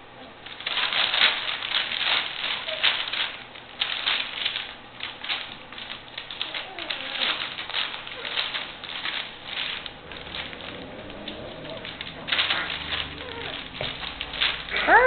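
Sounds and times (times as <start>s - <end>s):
newspaper crinkling: 0.4s - 15.0s.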